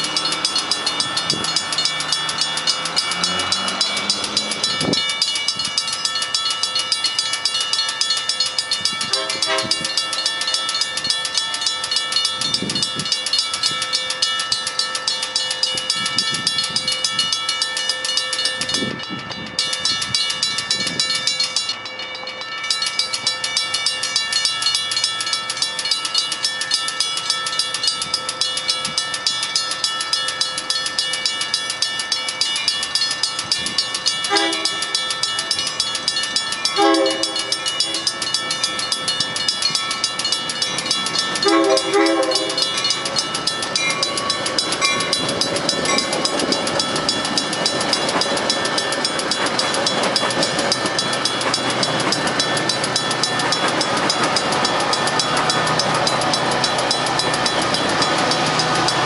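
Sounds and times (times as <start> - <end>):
railroad crossing bell ringing: 0.0 - 59.0.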